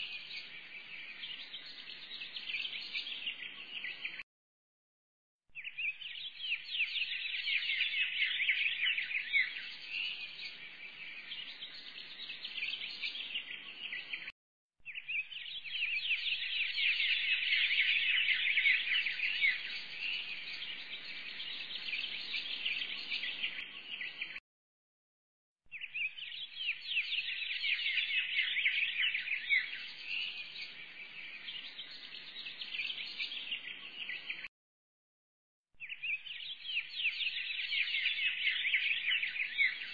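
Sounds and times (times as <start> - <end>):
flock of small birds chirping: 0.0 - 4.2, 5.6 - 24.4, 25.7 - 34.5, 35.8 - 39.9.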